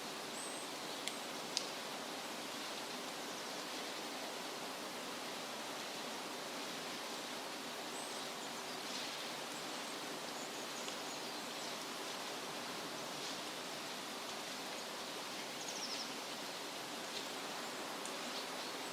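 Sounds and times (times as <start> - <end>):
rushing outdoor hiss: 0.0 - 18.9.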